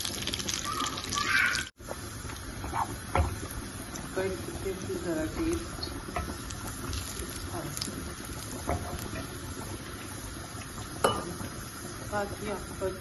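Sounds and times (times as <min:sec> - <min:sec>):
garlic sizzling in butter: 0:00.0 - 0:13.0.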